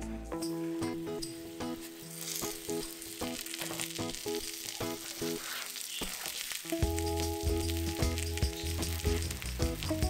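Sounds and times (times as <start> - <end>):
soft background music: 0.0 - 5.9, 6.7 - 10.0
dough rolls sizzling in a pan: 0.9 - 10.0.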